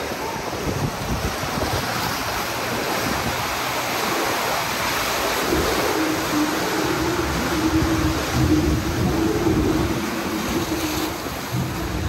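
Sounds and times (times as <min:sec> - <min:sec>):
rushing river rapids: 0:00.0 - 0:12.0
wind buffeting microphone: 0:00.0 - 0:12.0.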